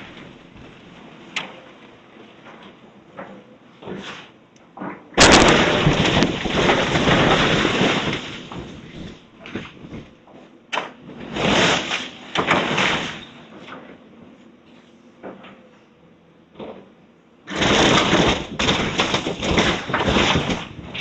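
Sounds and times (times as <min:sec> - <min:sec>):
demolition debris crashing: 0:00.0 - 0:04.0, 0:04.8 - 0:14.3, 0:17.4 - 0:21.0
debris crunching and rumbling: 0:00.0 - 0:04.1, 0:04.7 - 0:14.3, 0:17.5 - 0:21.0.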